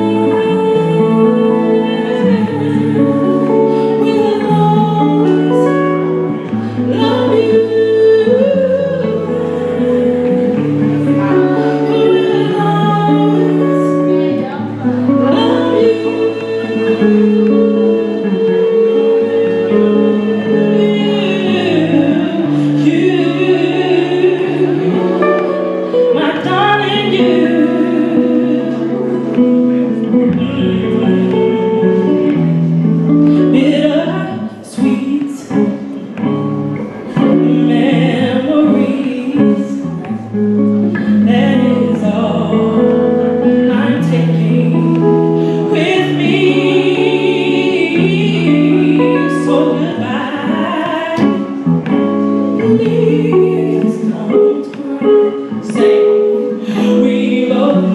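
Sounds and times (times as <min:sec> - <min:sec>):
electric guitar: 0:00.0 - 0:57.9
woman singing into a microphone: 0:00.0 - 0:57.9.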